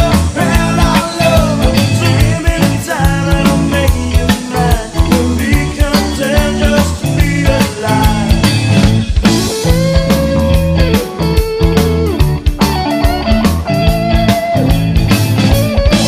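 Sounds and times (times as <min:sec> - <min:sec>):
rock music with steady beat: 0:00.0 - 0:16.0.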